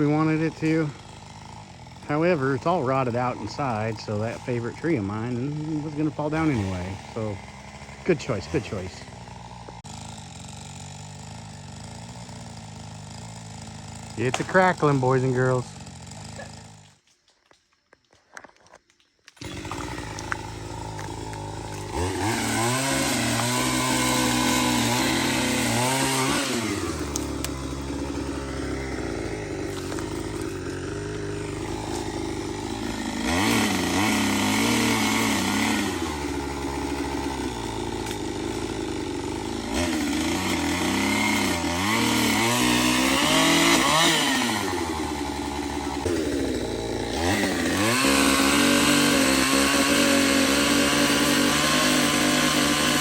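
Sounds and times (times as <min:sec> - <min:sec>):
chainsaw revving: 0:00.0 - 0:17.0, 0:19.4 - 0:53.0.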